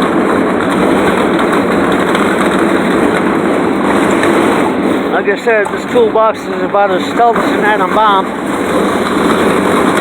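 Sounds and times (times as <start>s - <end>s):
tool box casters rolling on pavement: 0.0s - 10.0s.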